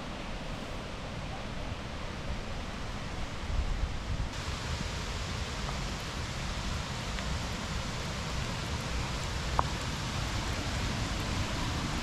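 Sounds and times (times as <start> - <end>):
river and waterfall rushing: 0.0 - 12.0.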